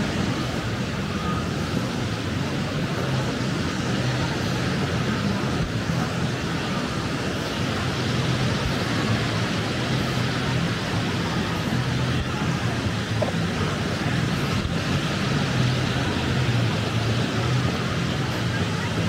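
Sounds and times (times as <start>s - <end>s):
low engine hum: 0.0s - 19.0s
waves washing onto beach: 0.0s - 19.0s.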